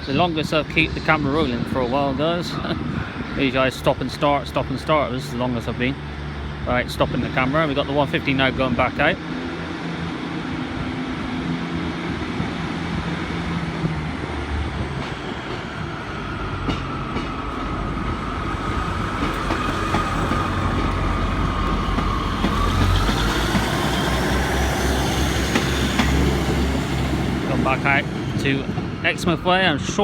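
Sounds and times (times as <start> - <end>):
diesel train engines running: 0.0 - 30.0.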